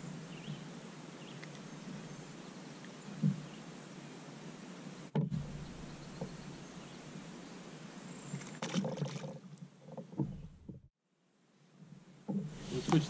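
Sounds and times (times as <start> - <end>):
outdoor hush: 0.0 - 13.0.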